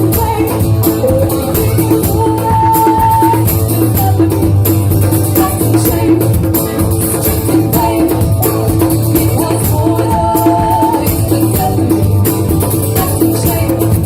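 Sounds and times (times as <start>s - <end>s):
person singing: 0.0s - 4.6s, 5.2s - 14.0s
drums and percussion: 0.0s - 14.0s
guitar: 0.0s - 14.0s.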